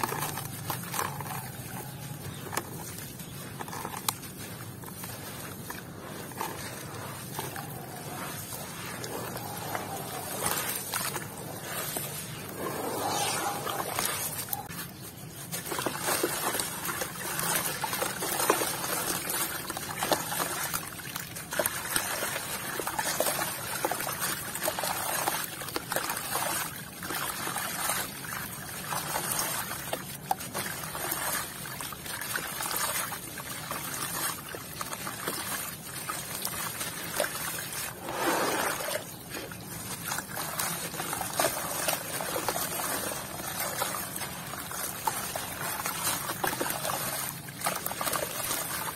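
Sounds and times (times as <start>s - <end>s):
grit splashing into water: 0.0s - 48.9s.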